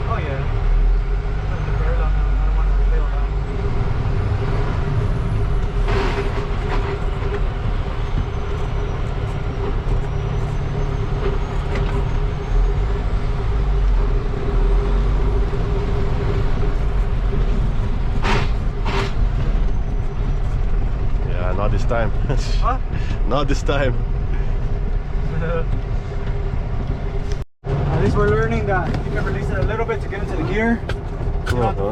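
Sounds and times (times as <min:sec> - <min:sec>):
truck engine rumbling: 0:00.0 - 0:31.9.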